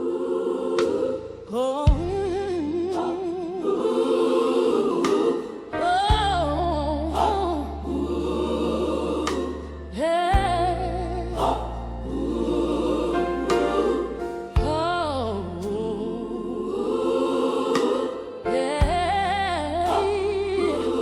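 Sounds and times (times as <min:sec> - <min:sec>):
wordless gospel singing: 0:00.0 - 0:21.0
sustained bass: 0:00.8 - 0:03.6, 0:05.9 - 0:18.0, 0:18.7 - 0:21.0.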